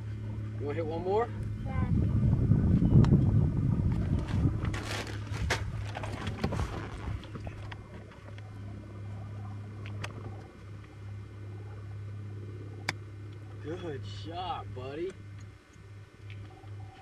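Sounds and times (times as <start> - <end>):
steady low hum: 0.0 - 17.0
wind: 0.0 - 17.0.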